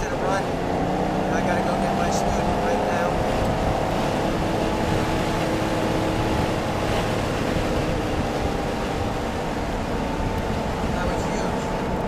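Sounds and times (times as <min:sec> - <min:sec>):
car engine running: 0:00.0 - 0:12.0
road and wind noise: 0:00.0 - 0:12.0.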